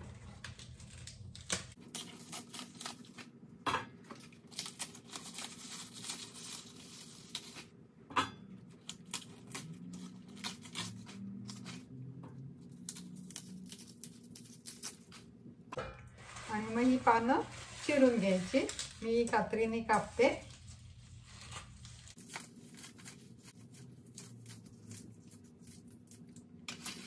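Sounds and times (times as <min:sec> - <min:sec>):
leaves tearing and crackling: 0:00.1 - 0:03.3, 0:04.3 - 0:07.7, 0:08.8 - 0:11.9, 0:12.6 - 0:15.3, 0:16.2 - 0:27.0.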